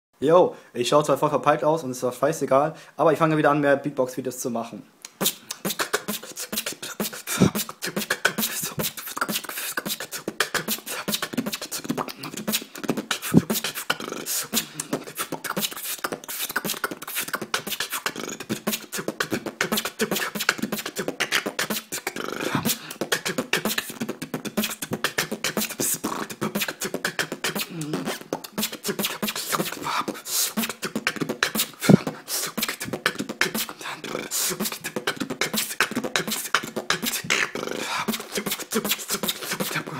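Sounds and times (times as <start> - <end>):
human beatboxing: 5.0 - 39.9.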